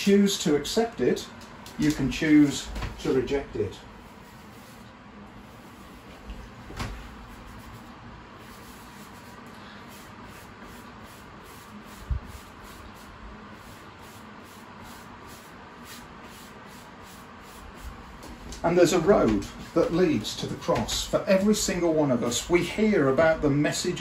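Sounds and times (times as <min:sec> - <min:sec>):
room hiss: 0:00.0 - 0:24.0.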